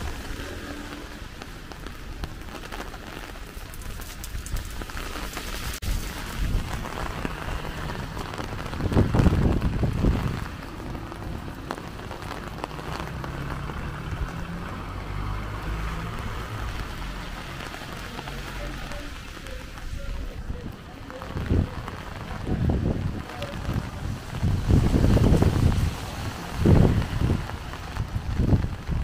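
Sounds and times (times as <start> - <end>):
heavy rain on street: 0.0 - 29.0.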